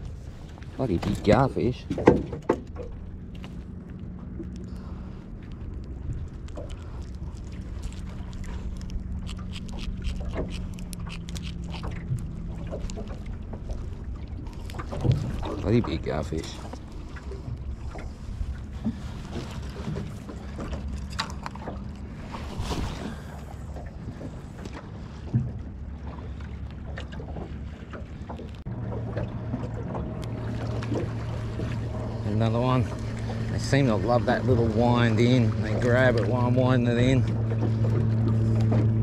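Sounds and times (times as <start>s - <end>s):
steady low hum: 0.0s - 39.0s
water lapping against boat hull: 0.0s - 39.0s.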